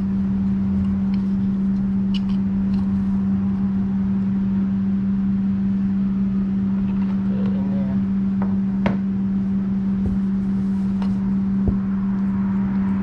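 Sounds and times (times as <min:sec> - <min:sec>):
loud low hum with rumble: 0:00.0 - 0:13.0.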